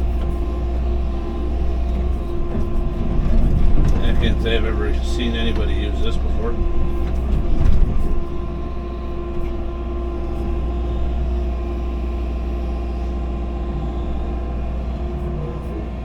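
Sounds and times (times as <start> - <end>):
excavator clatter: 0.0 - 16.0
excavator engine drone and whine: 0.0 - 16.0.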